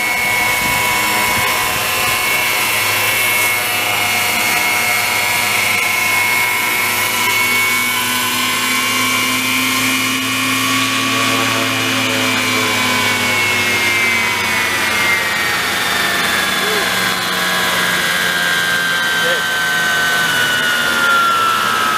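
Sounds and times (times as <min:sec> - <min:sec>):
model helicopter whine: 0:00.0 - 0:21.9.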